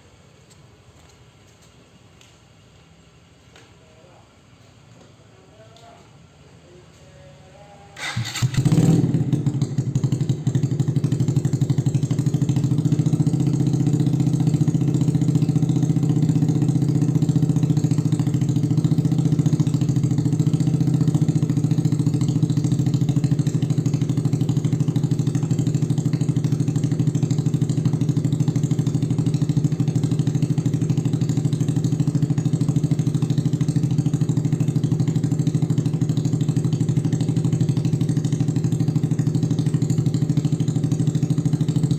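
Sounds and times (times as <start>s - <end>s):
motorcycle engine starting and idling: 8.0s - 41.9s.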